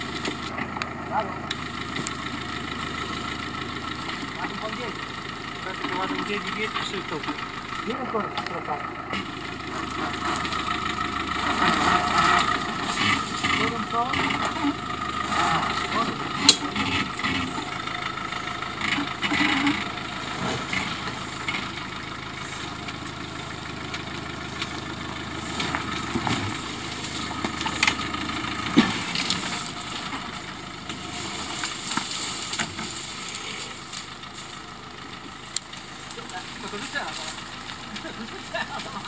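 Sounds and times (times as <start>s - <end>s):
engine running at low revs: 0.0s - 39.0s.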